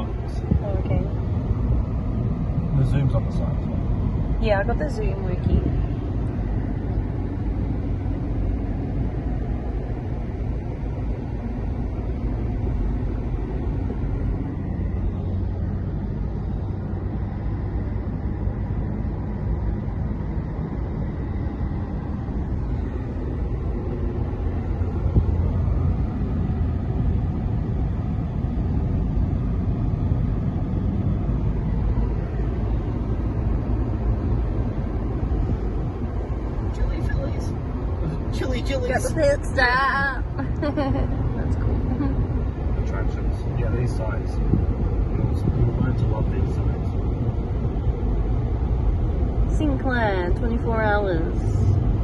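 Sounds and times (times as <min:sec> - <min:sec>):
car engine at cruising speed: 0:00.0 - 0:52.0.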